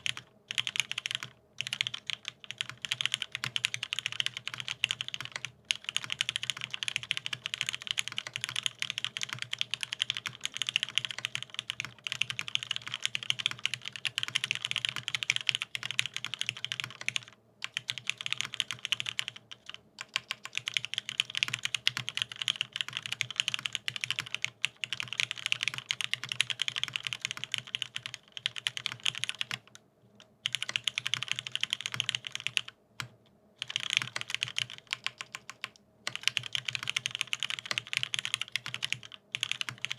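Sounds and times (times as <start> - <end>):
mechanical keyboard typing: 0.0 - 29.8, 30.4 - 39.9.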